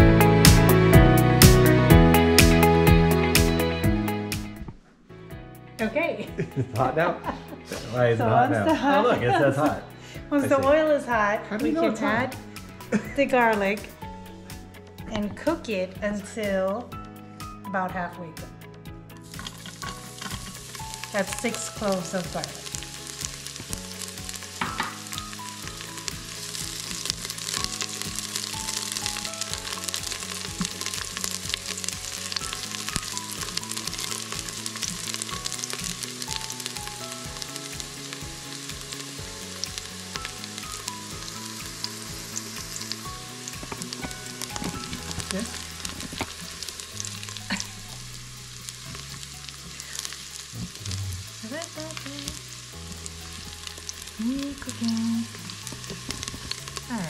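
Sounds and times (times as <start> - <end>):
soft background music: 0.0 - 57.0
garlic sizzling in hot oil: 8.7 - 17.9, 19.1 - 57.0.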